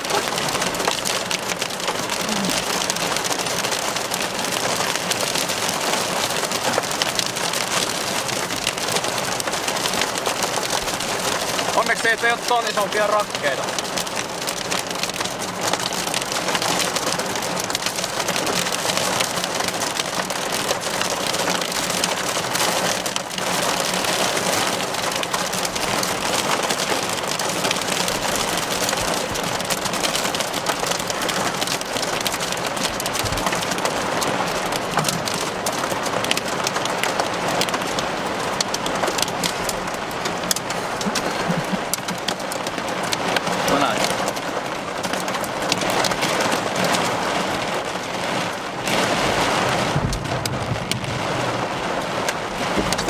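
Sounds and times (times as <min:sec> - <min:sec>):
hail ticking on glass: 0:00.0 - 0:47.0
heavy rain on car roof: 0:00.0 - 0:53.0.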